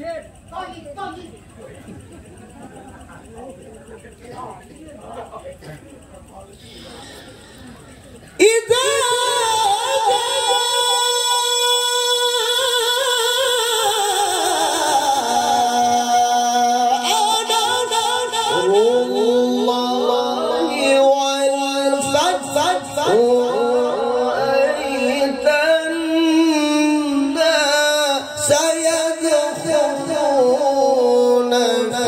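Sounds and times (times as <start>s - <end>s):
man reciting melodically over pa: 3.5s - 32.0s.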